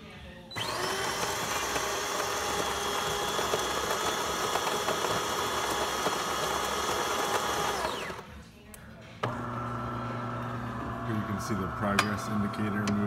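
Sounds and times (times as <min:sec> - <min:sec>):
coffee grinder motor whining: 0:00.5 - 0:08.3, 0:09.2 - 0:13.0.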